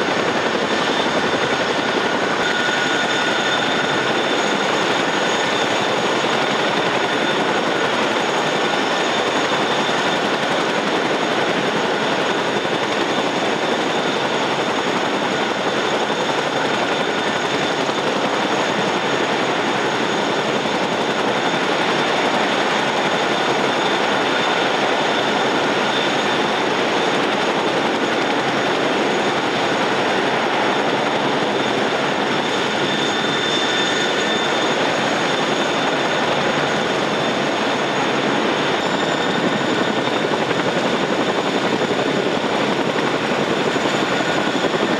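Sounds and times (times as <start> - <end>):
helicopter rotor blades rushing: 0.0 - 44.9
high turbine whine: 0.0 - 44.9.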